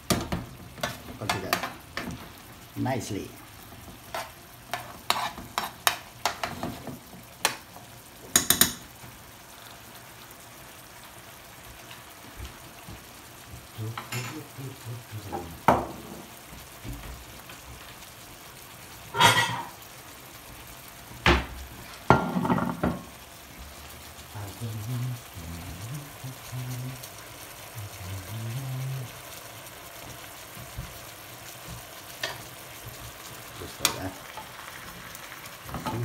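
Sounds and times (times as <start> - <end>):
fish sizzling in a pan: 0.0 - 36.0.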